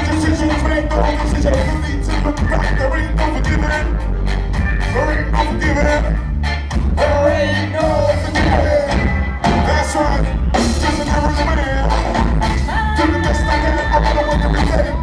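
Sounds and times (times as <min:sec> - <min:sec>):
person singing: 0:00.0 - 0:04.2, 0:07.0 - 0:15.0
ska band playing live: 0:00.0 - 0:15.0.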